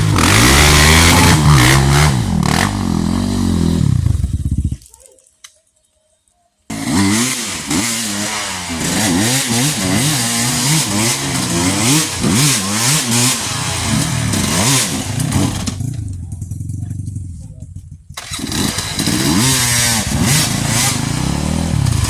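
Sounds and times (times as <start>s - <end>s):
motorcycle engine revving hard: 0.0s - 4.7s, 6.7s - 17.1s, 18.1s - 22.0s.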